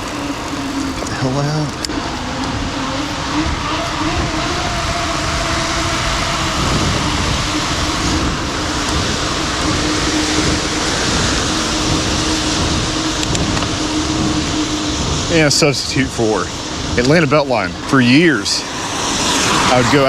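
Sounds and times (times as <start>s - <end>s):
steady hum: 0.0s - 20.0s
wind and rain noise: 0.0s - 20.0s.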